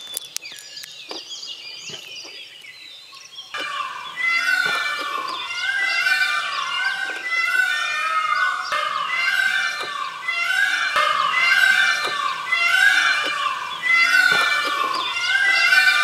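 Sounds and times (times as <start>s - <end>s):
chorus of birds calling: 0.0s - 16.0s.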